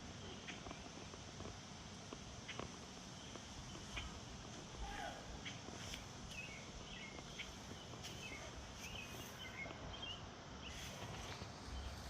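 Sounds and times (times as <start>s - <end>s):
faint steady hiss: 0.0s - 12.0s
small birds chirping: 0.0s - 12.0s.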